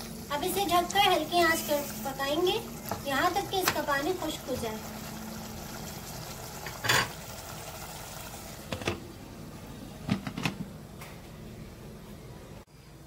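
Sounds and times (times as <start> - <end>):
faint steady simmer: 0.0 - 13.0.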